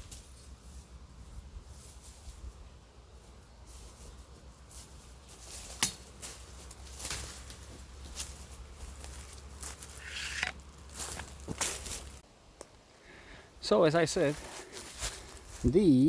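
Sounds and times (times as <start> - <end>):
rustling in forest brush: 0.0 - 16.0.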